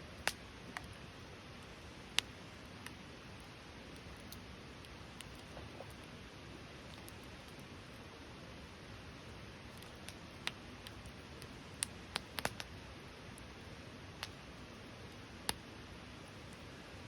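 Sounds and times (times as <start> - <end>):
campfire crackling: 0.0 - 17.0
low hiss: 0.0 - 17.0.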